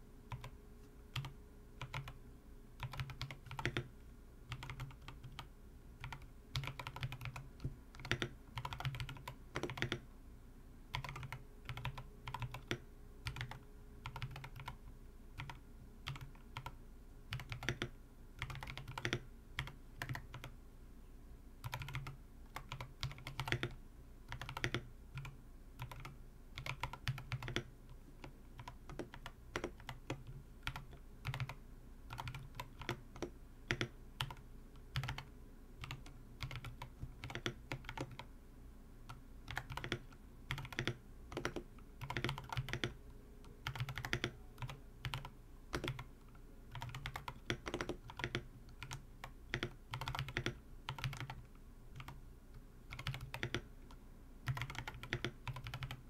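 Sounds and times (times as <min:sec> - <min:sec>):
mechanical keyboard typing: 0:00.3 - 0:00.5, 0:01.2 - 0:02.2, 0:02.8 - 0:03.9, 0:04.5 - 0:10.0, 0:10.9 - 0:14.8, 0:15.4 - 0:20.5, 0:21.6 - 0:27.7, 0:28.6 - 0:38.3, 0:39.5 - 0:46.1, 0:46.7 - 0:52.2, 0:52.9 - 0:53.7, 0:54.4 - 0:56.0.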